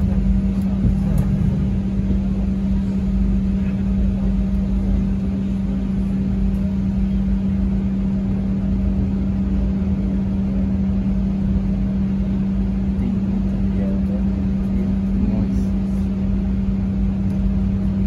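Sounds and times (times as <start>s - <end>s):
vehicle cabin drone: 0.0s - 18.0s.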